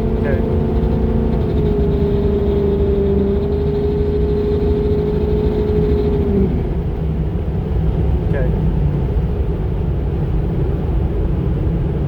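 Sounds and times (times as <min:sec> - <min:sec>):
diesel engine rumble: 0:00.0 - 0:12.0.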